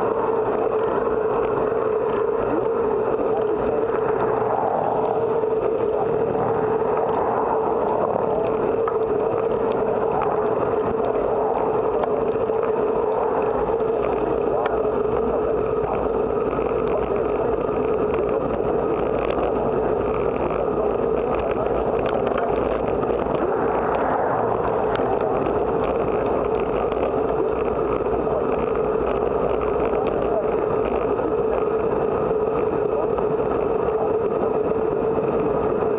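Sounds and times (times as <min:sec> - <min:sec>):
road noise: 0:00.0 - 0:35.9
steady hum: 0:00.0 - 0:35.9
wind rush: 0:00.0 - 0:35.9
faint ticks: 0:00.1 - 0:35.9.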